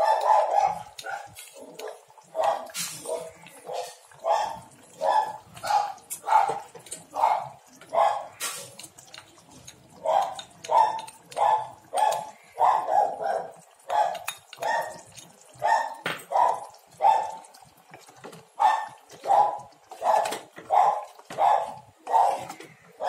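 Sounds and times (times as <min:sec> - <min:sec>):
dog barking: 0:00.0 - 0:08.4, 0:09.9 - 0:17.5, 0:18.6 - 0:23.0.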